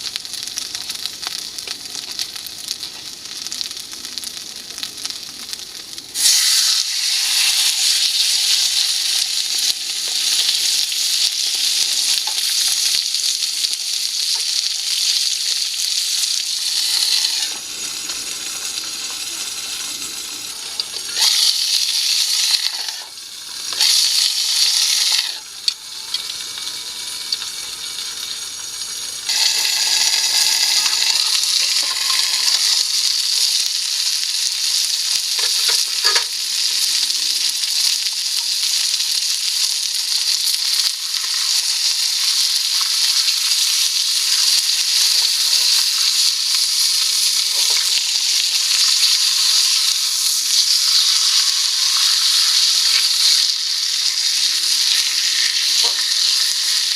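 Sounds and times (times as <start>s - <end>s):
food sizzling in a pan: 0.0s - 56.9s.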